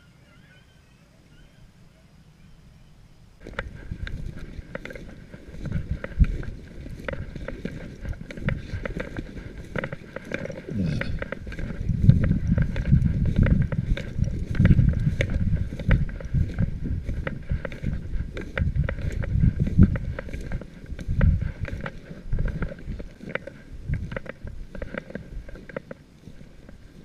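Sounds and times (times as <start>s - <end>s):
wind rumbling on microphone: 1.1s - 27.0s
footsteps through dry grass and snow: 3.4s - 27.0s.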